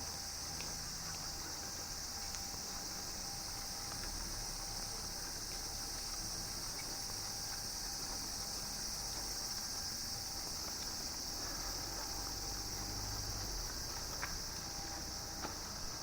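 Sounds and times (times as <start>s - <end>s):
insects chirping chorus: 0.0s - 16.0s.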